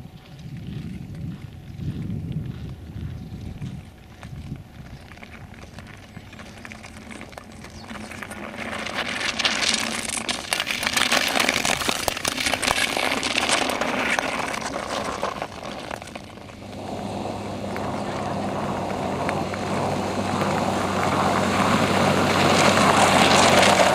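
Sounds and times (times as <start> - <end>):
skates scraping over ice: 4.4 - 23.9.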